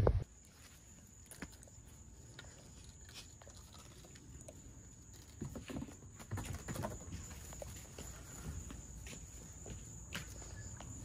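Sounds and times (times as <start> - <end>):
patter of small paws: 0.2 - 11.0.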